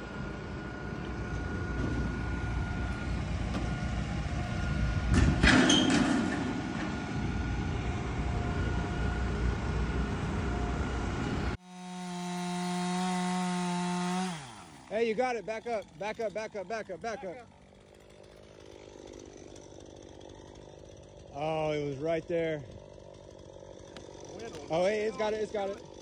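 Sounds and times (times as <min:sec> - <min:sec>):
chainsaw engine at high speed: 0:00.0 - 0:26.0.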